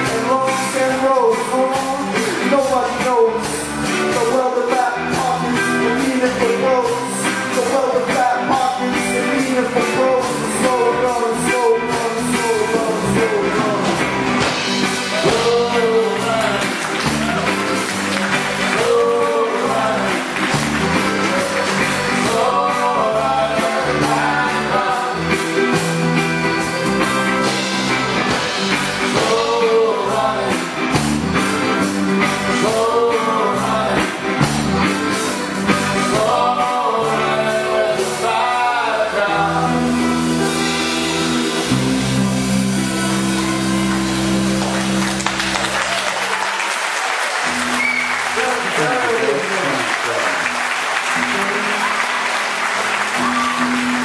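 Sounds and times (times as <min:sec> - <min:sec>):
live rock and roll band: 0:00.0 - 0:54.0.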